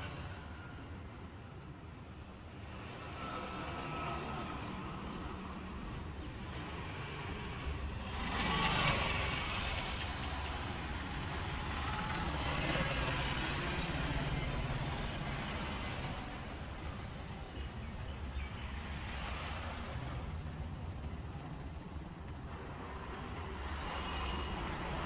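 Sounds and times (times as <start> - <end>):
road traffic: 0.0 - 25.0
vehicles passing: 0.0 - 25.0.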